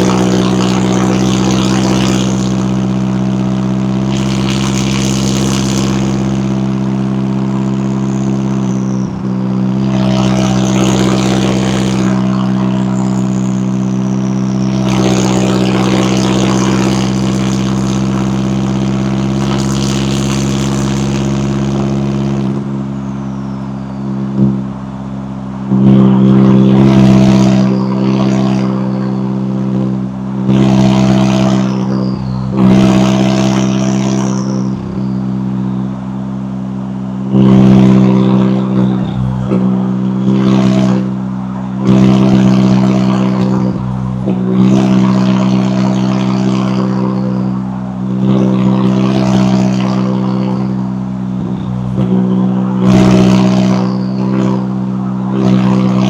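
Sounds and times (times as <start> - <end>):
car engine idling: 0.0 - 56.0
short surges of engine noise: 0.0 - 56.0.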